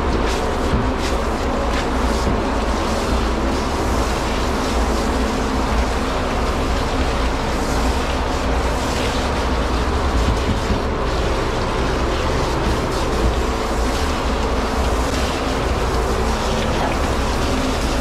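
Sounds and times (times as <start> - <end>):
blow dryer running: 0.0 - 18.0.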